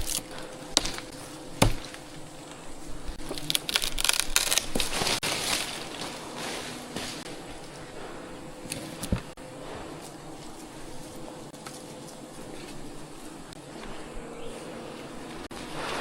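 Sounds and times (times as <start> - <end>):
crackling rustling handling noise: 0.0 - 16.0.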